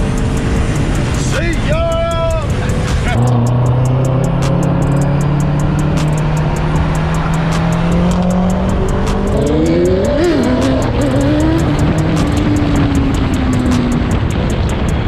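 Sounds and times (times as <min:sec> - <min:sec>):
engine revving: 0:00.0 - 0:15.0
music with steady beat: 0:00.0 - 0:15.0
vehicle engines and road noise: 0:00.0 - 0:15.0.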